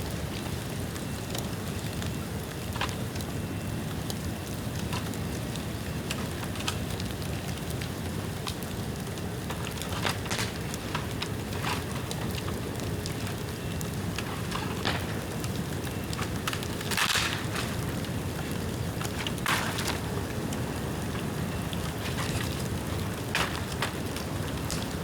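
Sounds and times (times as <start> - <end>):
fire crackles and pops: 0.0 - 25.0
rush of flames: 0.0 - 25.0.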